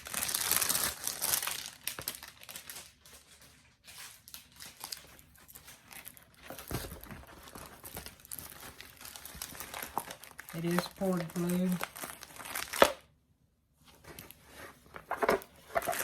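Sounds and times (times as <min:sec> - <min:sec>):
plastic packaging crinkling: 0:00.0 - 0:13.1, 0:14.0 - 0:16.0.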